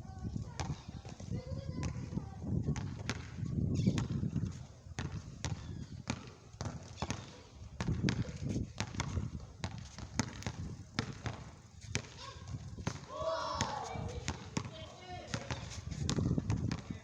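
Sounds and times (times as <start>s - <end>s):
basketball bouncing on hard court: 0.5s - 17.0s.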